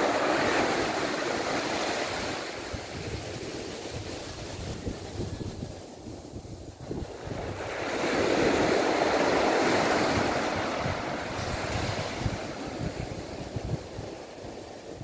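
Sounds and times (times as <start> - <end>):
small waves washing up beach: 0.0 - 15.0
wind buffeting microphone: 0.0 - 15.0.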